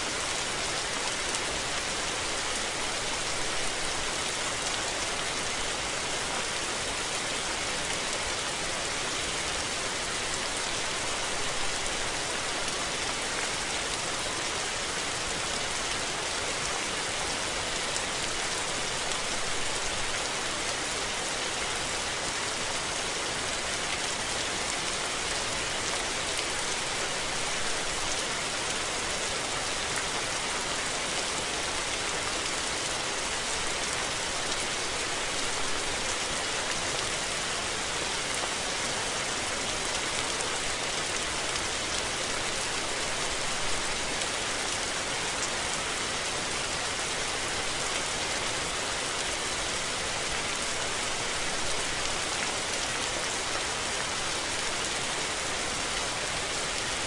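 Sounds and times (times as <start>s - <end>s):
rain pattering on surfaces: 0.1s - 57.0s.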